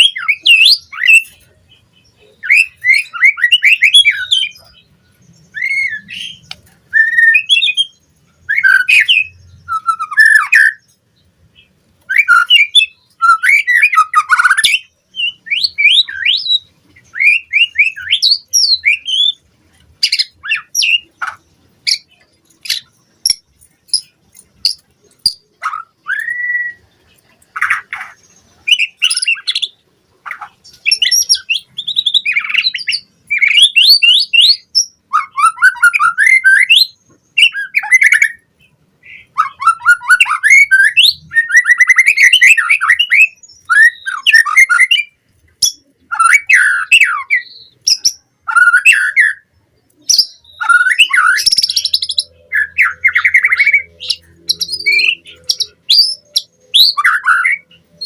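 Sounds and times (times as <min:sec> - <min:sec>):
bird singing whistled trills: 0:00.0 - 0:11.0, 0:11.6 - 0:58.0.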